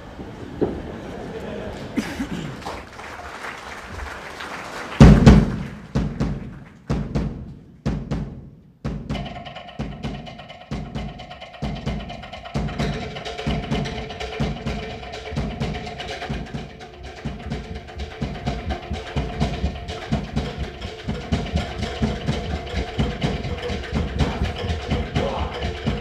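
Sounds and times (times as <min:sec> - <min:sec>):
drum strikes: 0:05.0 - 0:26.0.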